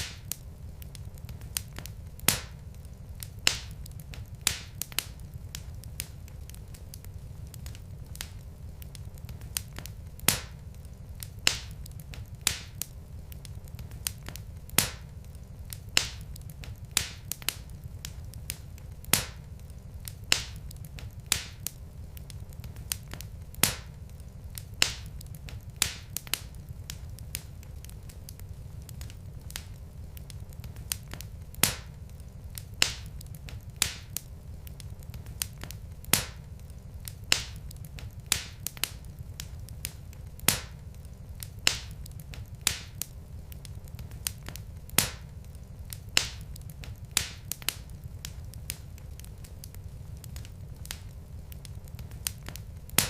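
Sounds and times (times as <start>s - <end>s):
low steady rumble: 0.0s - 53.0s
wood fire crackling: 0.0s - 53.0s.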